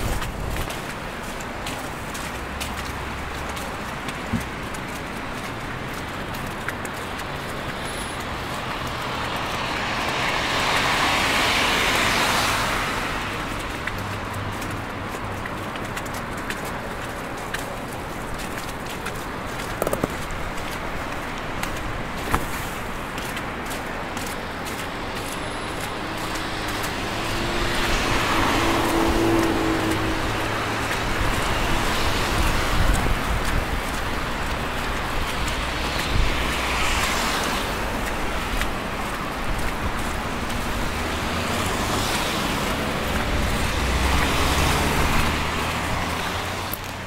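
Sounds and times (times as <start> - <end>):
road traffic tyres and engines: 0.0 - 47.0
vehicles passing: 0.0 - 47.0.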